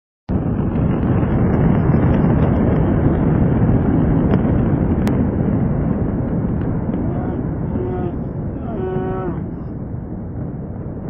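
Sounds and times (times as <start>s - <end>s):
low rumbling fire noise: 0.3s - 11.0s.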